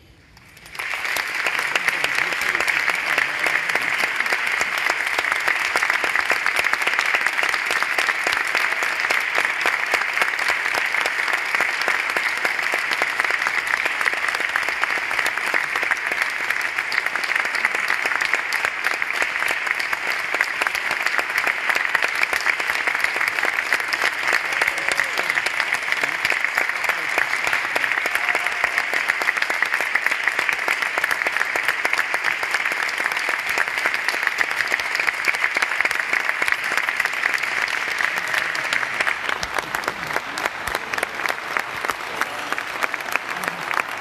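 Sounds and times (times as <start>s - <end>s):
audience applauding: 0.0s - 44.0s.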